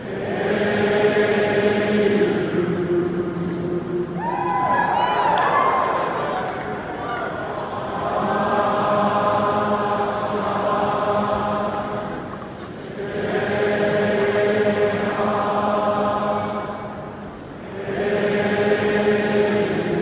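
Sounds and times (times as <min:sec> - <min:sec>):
arena crowd singing: 0:00.0 - 0:20.0.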